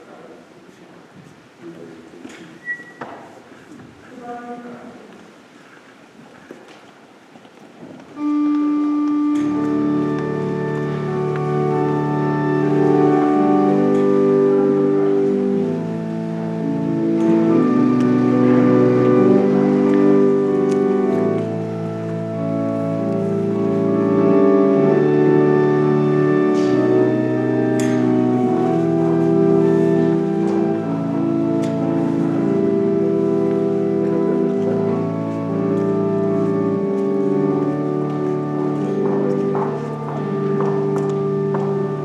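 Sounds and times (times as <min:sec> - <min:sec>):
church organ sustained chords: 0:08.1 - 0:42.0.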